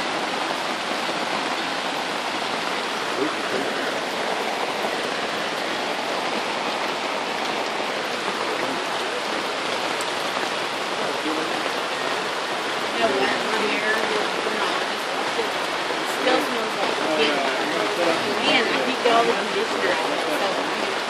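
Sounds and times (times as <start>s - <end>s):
rain on a tarp: 0.0s - 21.0s
rain on wet ground: 0.0s - 21.0s.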